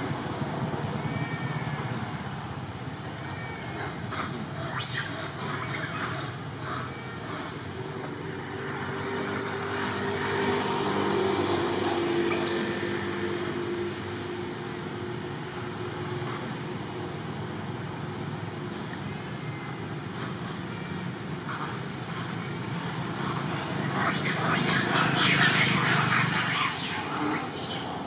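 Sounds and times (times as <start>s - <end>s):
outdoor background hum: 0.0s - 28.0s.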